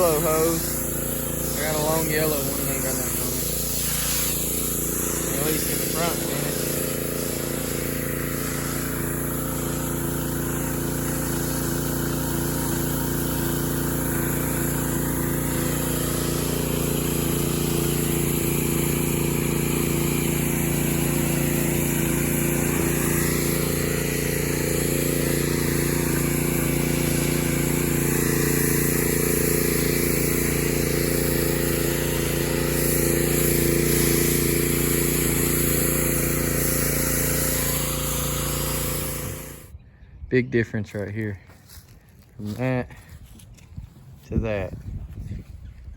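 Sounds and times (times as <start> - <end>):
water spray hissing: 0.0 - 39.7
pressure washer motor drone: 0.0 - 39.8.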